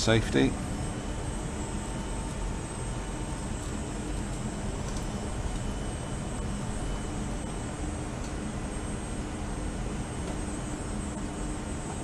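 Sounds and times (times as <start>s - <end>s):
machine hum with fan noise: 0.0s - 12.0s.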